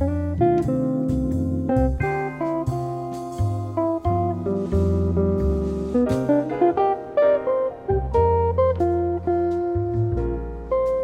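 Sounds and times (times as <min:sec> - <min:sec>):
bass line: 0:00.0 - 0:11.0
plucked guitar music: 0:00.0 - 0:11.0.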